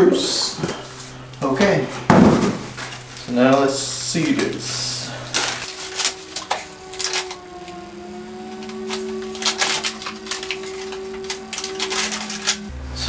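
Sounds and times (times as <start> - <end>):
plastic and paper crinkling: 0.3 - 12.7.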